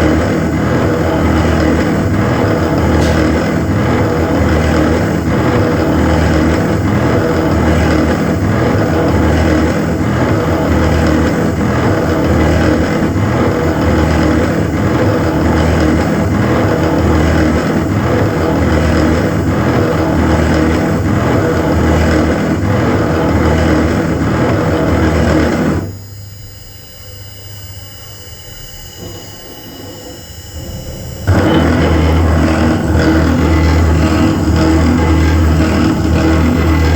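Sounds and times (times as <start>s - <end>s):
cnc machine running: 0.0s - 36.9s.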